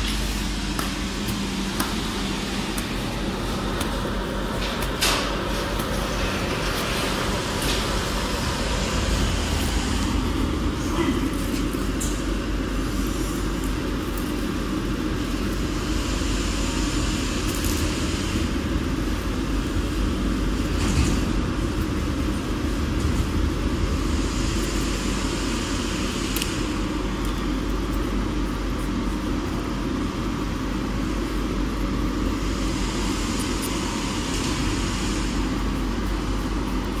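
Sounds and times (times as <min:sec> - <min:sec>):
packaging machine humming: 0:00.0 - 0:37.0.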